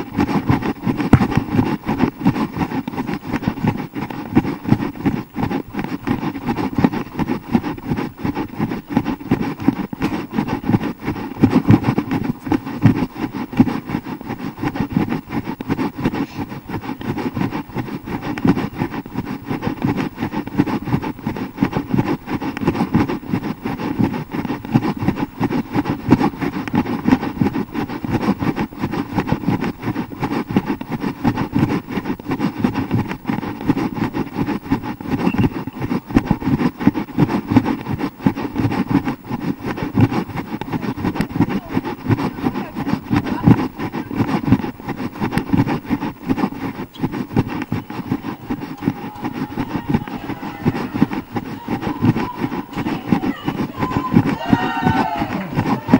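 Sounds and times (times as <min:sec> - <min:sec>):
wind and handling rumble: 0:00.0 - 0:55.9.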